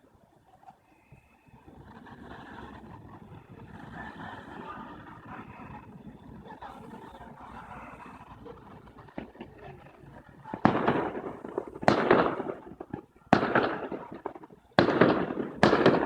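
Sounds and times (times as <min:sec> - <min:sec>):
fireworks bangs: 0:01.6 - 0:16.0.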